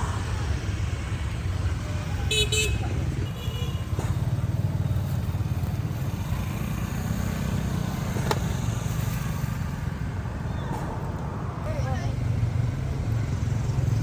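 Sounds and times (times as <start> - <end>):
motorbike engine rumbling: 0.0 - 14.0.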